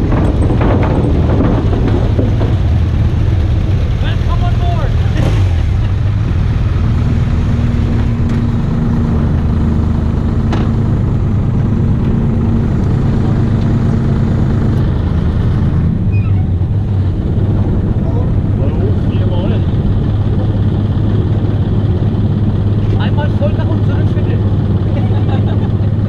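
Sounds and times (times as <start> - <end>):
engine rumbling: 0.0 - 26.0
steady hum: 0.0 - 26.0.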